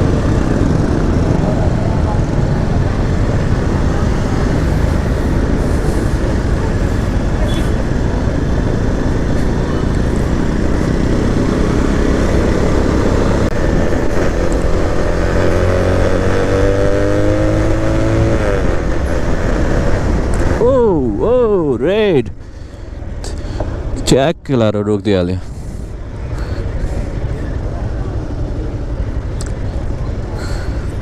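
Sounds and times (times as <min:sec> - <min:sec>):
vehicle engine running: 0:00.0 - 0:24.2, 0:25.3 - 0:31.0
road and wind noise: 0:00.0 - 0:31.0.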